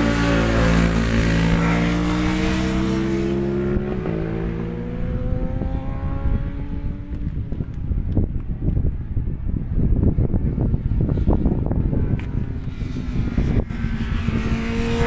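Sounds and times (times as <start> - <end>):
racing motorcycle engine passing: 0.0 - 7.6, 9.9 - 15.0
wind buffeting microphone: 0.0 - 15.0.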